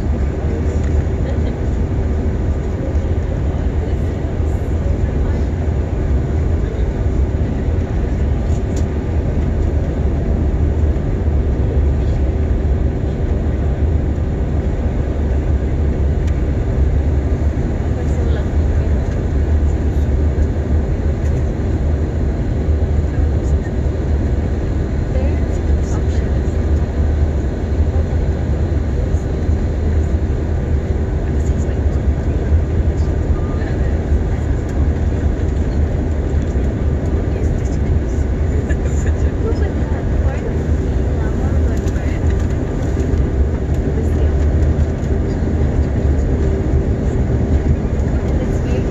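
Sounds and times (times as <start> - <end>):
airliner cabin engine rumble: 0.0 - 48.9.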